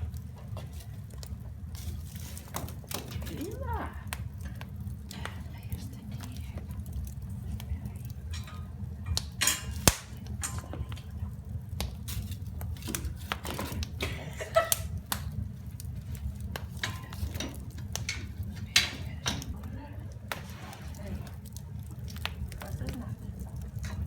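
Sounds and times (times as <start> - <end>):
sharp crack of fire: 0.0 - 24.0
wood fire crackling: 0.0 - 24.0.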